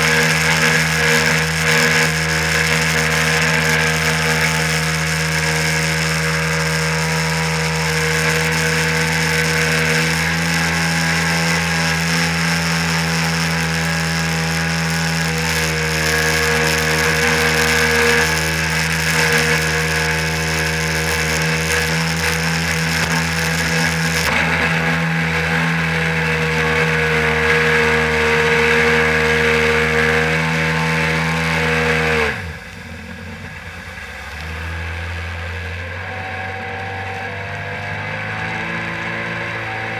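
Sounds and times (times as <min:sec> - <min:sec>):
jet ski engine running: 0:00.0 - 0:39.9
water rush and spray: 0:00.0 - 0:39.9.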